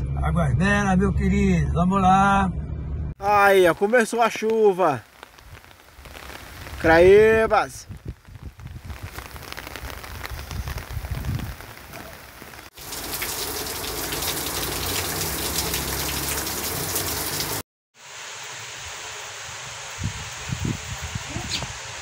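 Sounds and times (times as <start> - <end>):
rain pattering: 3.2 - 22.0.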